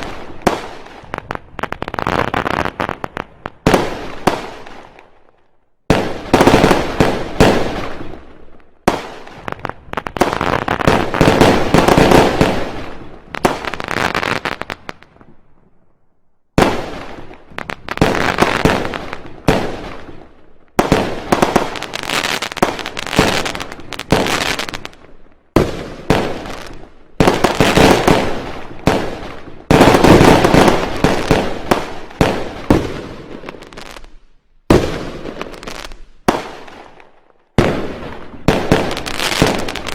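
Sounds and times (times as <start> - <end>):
fireworks banging and crackling: 0.0 - 15.7, 16.5 - 39.9.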